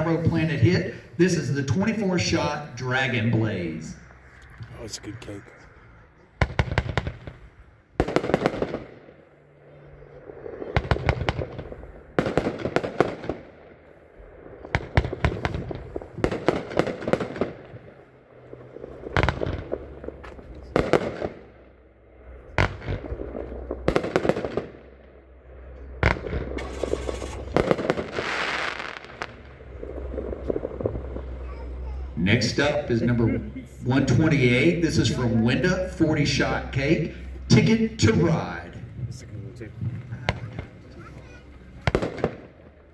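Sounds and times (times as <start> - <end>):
firework reports: 0.0 - 42.9.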